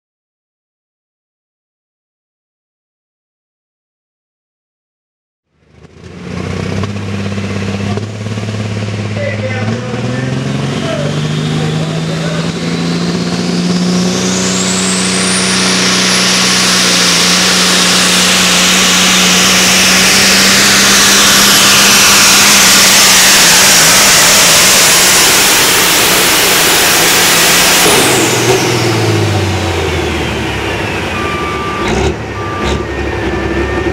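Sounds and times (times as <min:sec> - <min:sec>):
diesel truck engine roaring: 0:05.5 - 0:33.9
high turbo whine: 0:05.5 - 0:33.9.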